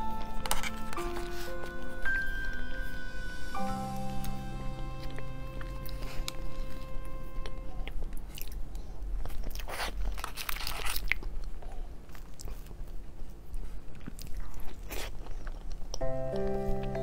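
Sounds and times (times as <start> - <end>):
chewing and biting mouth sounds: 0.0 - 2.8, 5.0 - 17.0.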